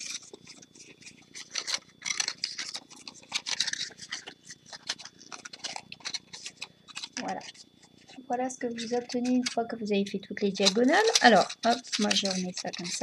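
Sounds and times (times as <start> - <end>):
paper crinkling as folded: 0.0 - 9.8, 10.4 - 13.0.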